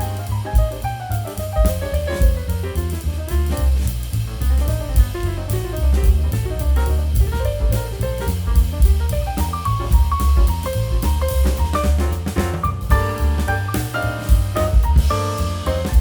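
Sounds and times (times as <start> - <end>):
upbeat jazz music: 0.0 - 16.0.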